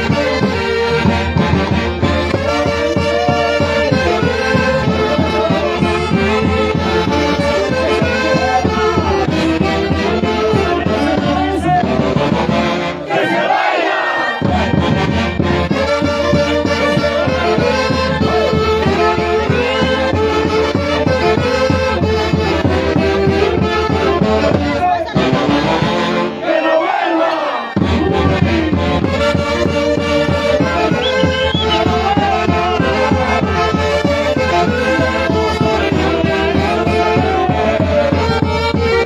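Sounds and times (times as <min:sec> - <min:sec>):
wind instruments melody: 0:00.0 - 0:39.0.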